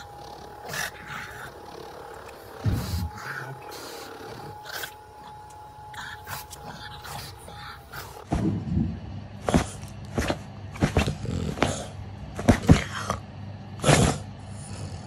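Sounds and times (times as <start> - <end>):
small dog growling: 0.0 - 8.3, 9.4 - 13.2, 13.8 - 15.0.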